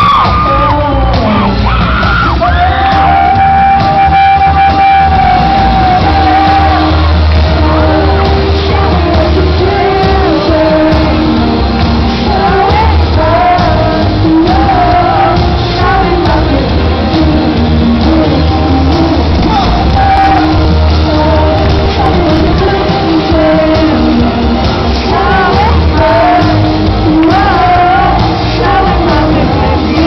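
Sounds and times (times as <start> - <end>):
electric guitar: 0.0 - 30.0
heavy bass: 0.0 - 30.0
person singing: 0.0 - 30.0.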